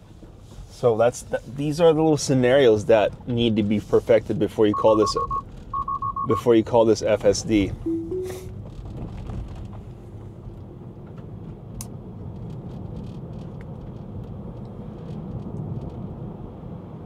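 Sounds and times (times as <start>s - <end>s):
tyre and road noise rumble: 0.0s - 7.9s, 8.5s - 17.0s.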